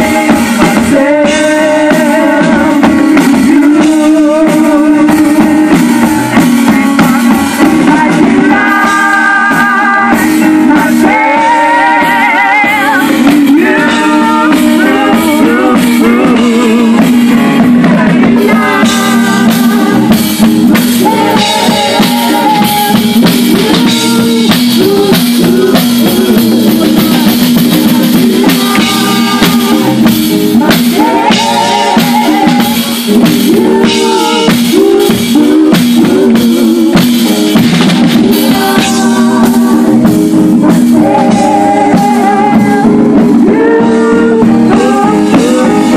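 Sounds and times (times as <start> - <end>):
drums: 0.0 - 45.9
keyboard: 0.0 - 45.9
women singing into microphones: 0.0 - 45.9.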